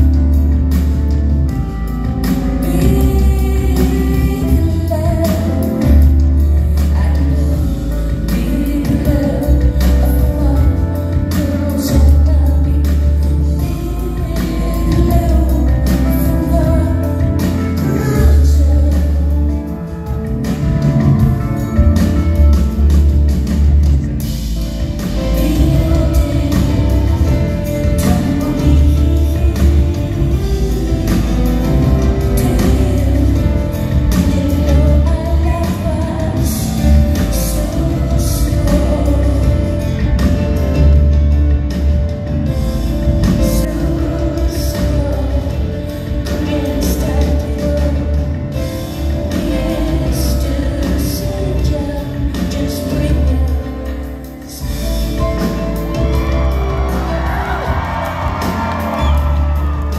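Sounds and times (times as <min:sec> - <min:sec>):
woman singing: 0:00.0 - 0:41.8, 0:42.4 - 0:59.9
live band playing: 0:00.0 - 0:59.9.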